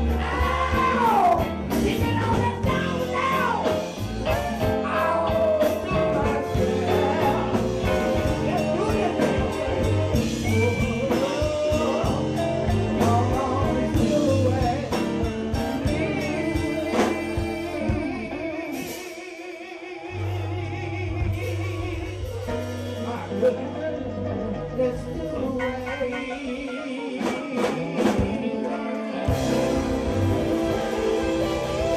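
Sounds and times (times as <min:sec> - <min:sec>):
man singing into a microphone: 0:00.0 - 0:29.9
band with keyboard and drums: 0:00.0 - 0:31.9.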